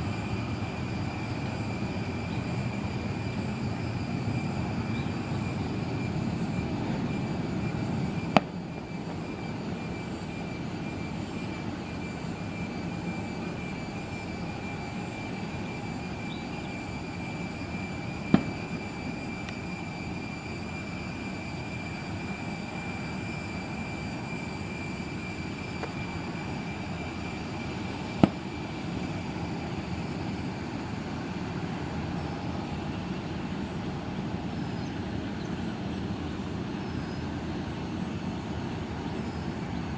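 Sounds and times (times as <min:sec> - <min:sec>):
distant jet engines rumbling: 0:00.0 - 0:39.9.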